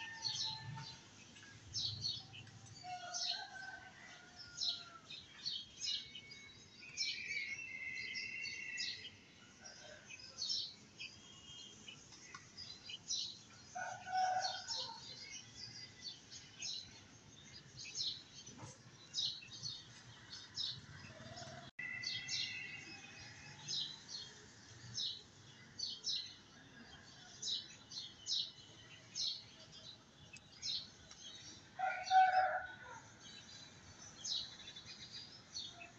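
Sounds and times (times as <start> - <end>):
small birds chirping: 4.4 - 35.9.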